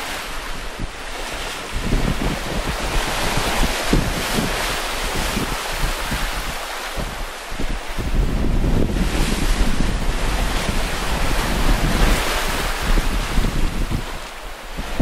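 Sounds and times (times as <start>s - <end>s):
waves rushing along hull: 0.0s - 15.0s
wind buffeting microphone: 0.0s - 15.0s.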